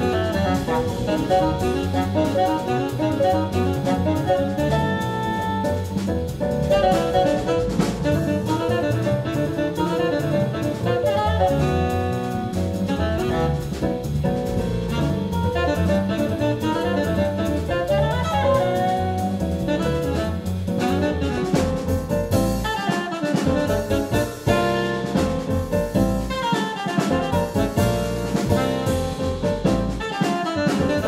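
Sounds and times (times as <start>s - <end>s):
walking double bass: 0.0s - 22.8s, 23.5s - 26.5s, 27.1s - 31.0s
drum kit: 0.0s - 31.0s
jazz band playing live: 0.0s - 31.0s
piano: 0.0s - 31.0s
saxophone: 0.0s - 31.0s.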